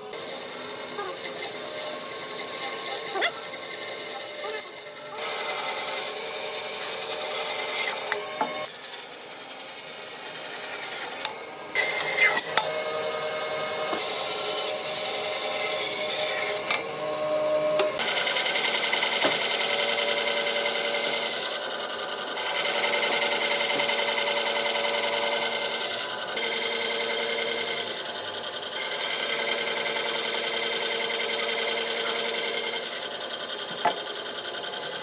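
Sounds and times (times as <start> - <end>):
power tool sanding wood: 0.0 - 35.0.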